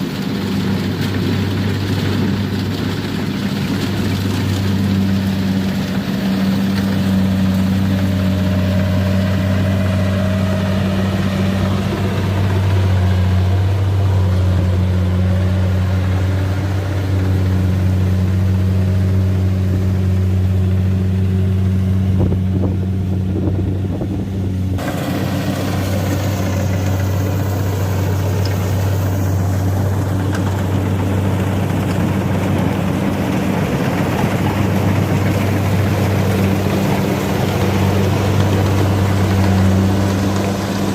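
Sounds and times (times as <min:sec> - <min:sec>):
combine harvester diesel engine humming: 0:00.0 - 0:40.9.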